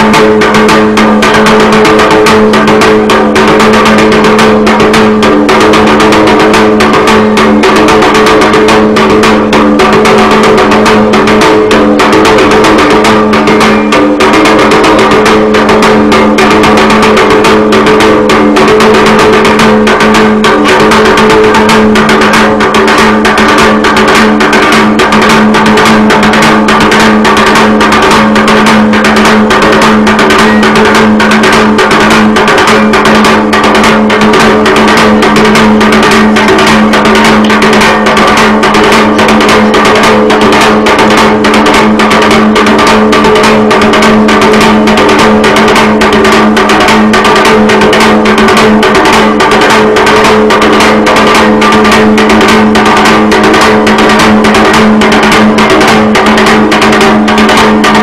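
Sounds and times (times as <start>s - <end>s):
hand drum beaten fast: 0.0s - 58.0s.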